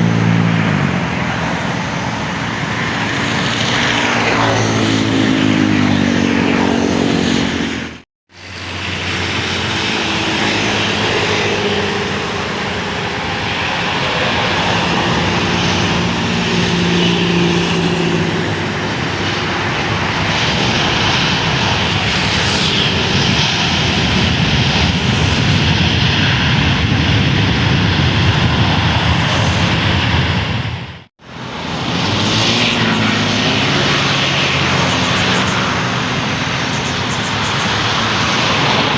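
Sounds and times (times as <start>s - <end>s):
airliner engines droning: 0.0s - 38.9s.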